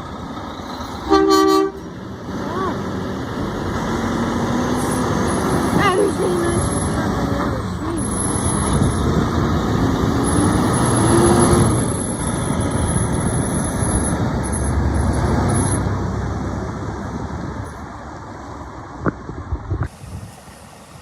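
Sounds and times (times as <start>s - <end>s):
heavy trucks driving past: 0.0s - 21.0s.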